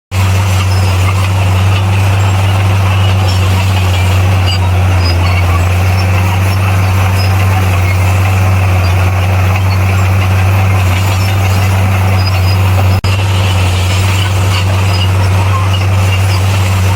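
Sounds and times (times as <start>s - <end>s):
bulldozer diesel engine running: 0.1s - 16.9s.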